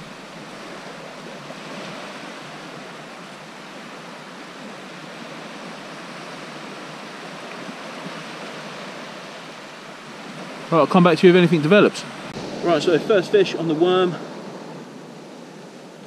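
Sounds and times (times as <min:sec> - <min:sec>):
sea washing on shingle beach: 0:00.0 - 0:16.0.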